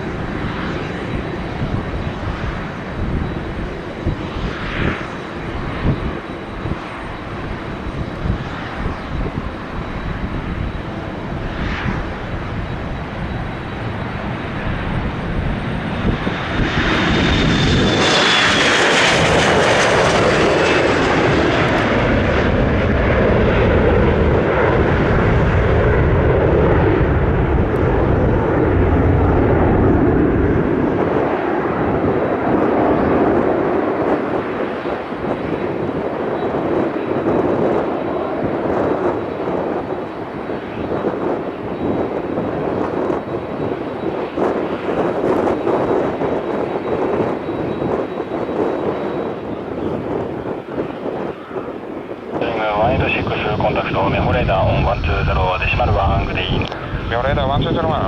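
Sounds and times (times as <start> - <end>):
jet engine roar: 0.0 - 58.0
wind noise on microphone: 0.0 - 58.0.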